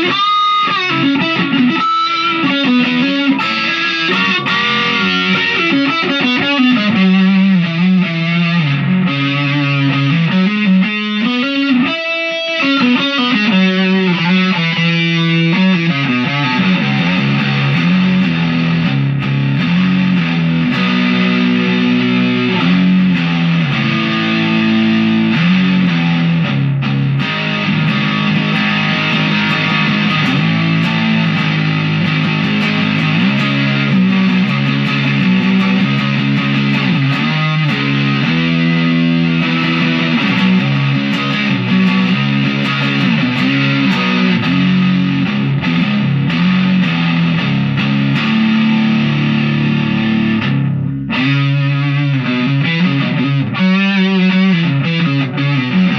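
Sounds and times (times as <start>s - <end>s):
distorted electric guitar rock: 0.0s - 55.9s.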